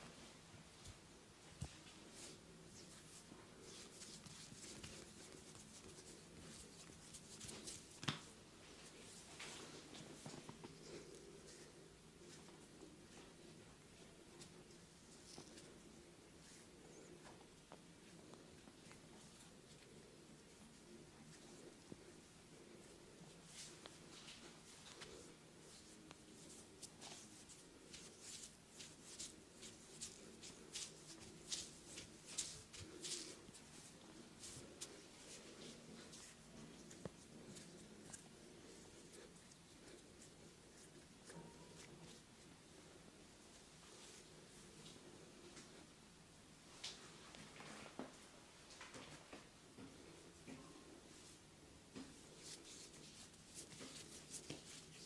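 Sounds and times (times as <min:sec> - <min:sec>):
hands rubbing skin and hair: 0:00.2 - 0:45.9, 0:51.1 - 0:55.0.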